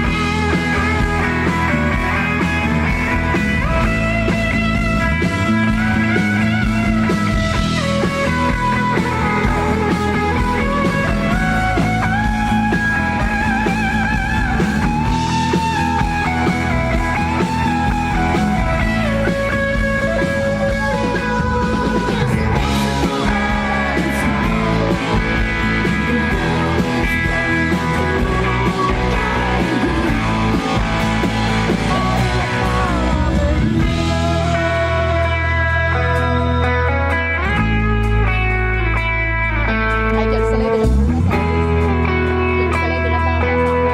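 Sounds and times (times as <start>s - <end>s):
bass and drums: 0.0s - 43.9s
electric guitar held notes: 0.0s - 43.9s.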